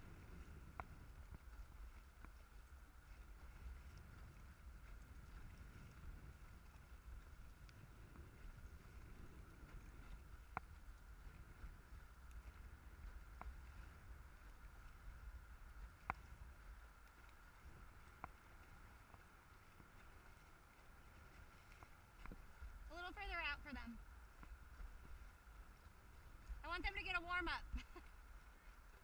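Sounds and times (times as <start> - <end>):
water around paddled boat: 0.0 - 29.0
wind rumble on microphone: 0.0 - 29.0.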